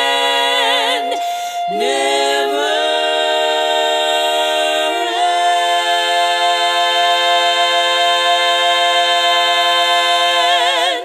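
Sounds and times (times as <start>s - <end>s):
choir singing a held chord: 0.0s - 11.0s.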